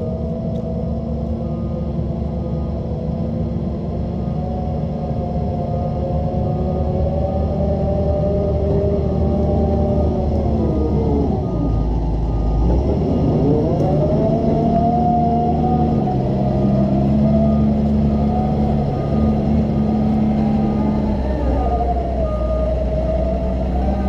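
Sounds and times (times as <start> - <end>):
excavator engine and hydraulics whining: 0.0 - 24.0.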